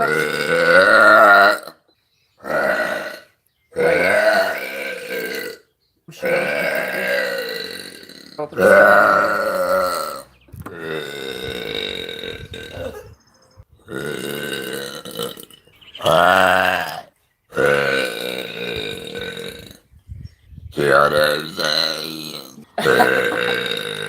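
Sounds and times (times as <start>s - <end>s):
woman belching: 0.0s - 1.8s, 2.4s - 5.6s, 6.2s - 13.2s, 13.8s - 17.0s, 17.6s - 19.8s, 20.8s - 24.0s.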